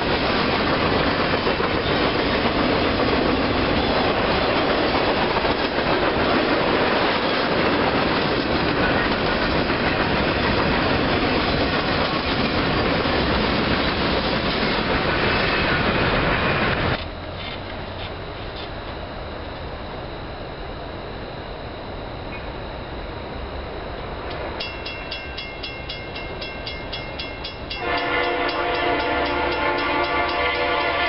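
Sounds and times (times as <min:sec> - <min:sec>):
train wheels on rails: 0:00.0 - 0:19.8, 0:23.4 - 0:31.0.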